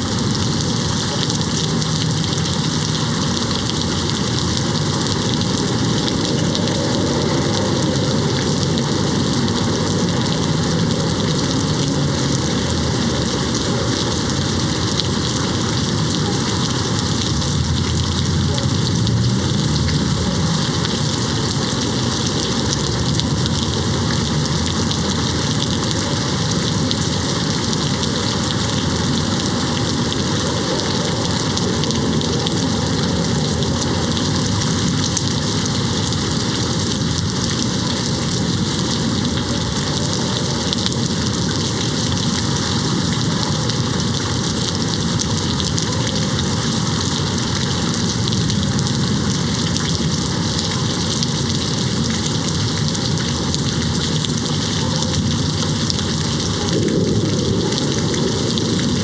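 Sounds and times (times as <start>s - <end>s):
rain on a window: 0.0s - 59.0s.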